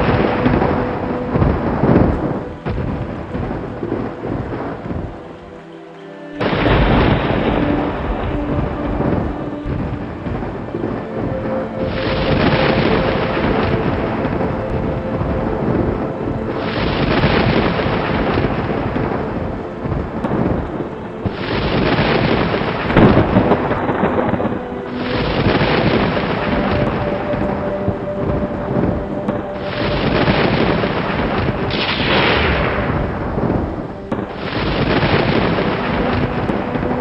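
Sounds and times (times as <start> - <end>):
rolling thunder: 0.0 - 5.4, 6.4 - 37.0
steady rain: 0.0 - 37.0
sharp thunder crack: 6.4 - 37.0.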